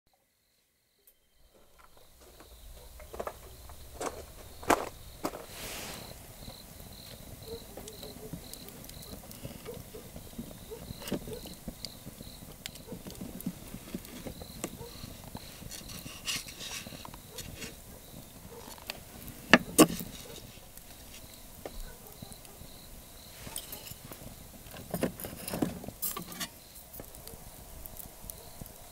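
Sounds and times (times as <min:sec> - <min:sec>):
cricket chirping: 0:00.1 - 0:28.9.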